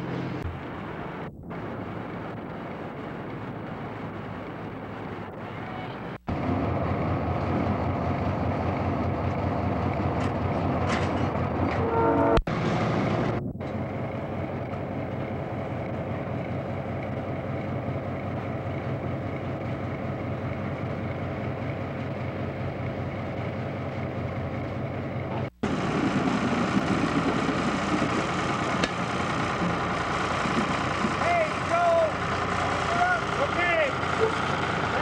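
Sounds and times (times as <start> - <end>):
diesel locomotive engine idling: 0.0 - 35.0
rough engine and machinery noise: 0.0 - 35.0.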